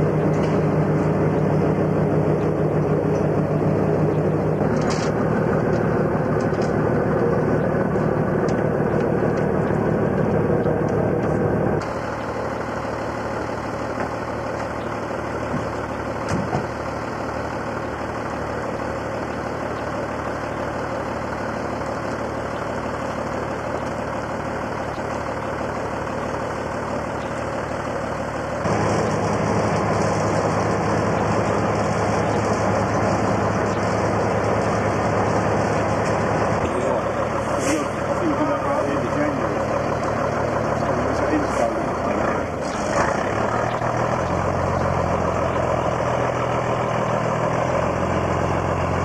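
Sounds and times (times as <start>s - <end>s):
diesel truck engine running: 0.0s - 49.0s.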